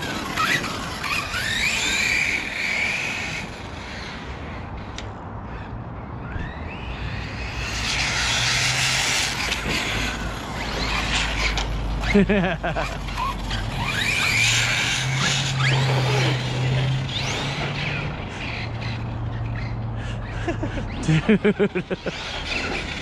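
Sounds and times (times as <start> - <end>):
toy car motor whining: 0.0 - 5.0, 6.2 - 23.0.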